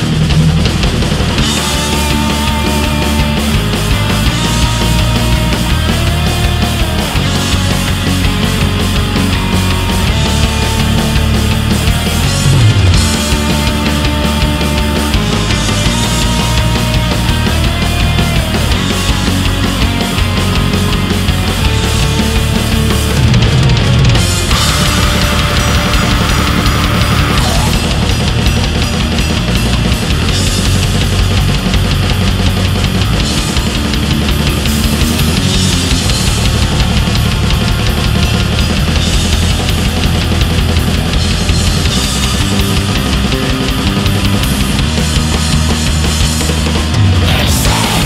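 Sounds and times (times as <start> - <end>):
fast bass-drum strokes: 0.0 - 48.0
heavy metal music: 0.0 - 48.0.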